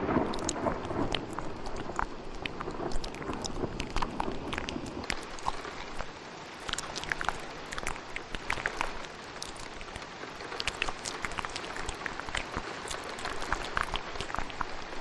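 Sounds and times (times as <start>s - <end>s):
rain pattering: 0.0s - 15.0s
wet mouth clicks and smacks: 0.1s - 15.0s.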